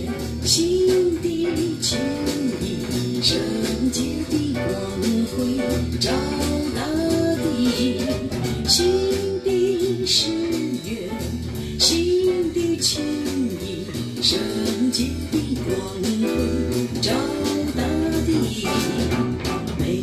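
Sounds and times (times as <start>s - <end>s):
bass: 0.0s - 20.0s
sliding melody line: 0.0s - 20.0s.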